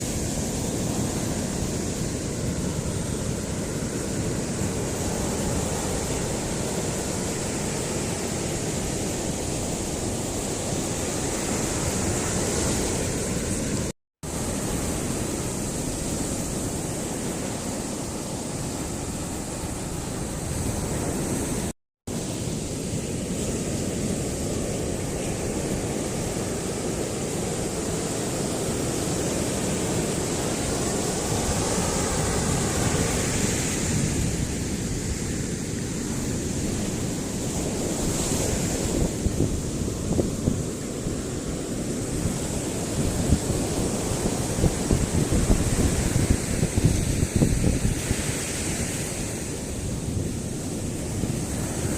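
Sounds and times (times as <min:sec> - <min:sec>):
ocean surf rushing on beach: 0:00.0 - 0:51.9
wind noise on microphone: 0:00.0 - 0:51.9.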